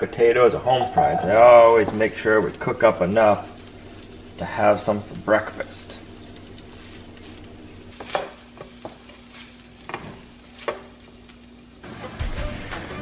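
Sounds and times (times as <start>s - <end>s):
steady low hum: 0.6s - 11.8s
food sizzling in a hot pan: 1.2s - 11.9s.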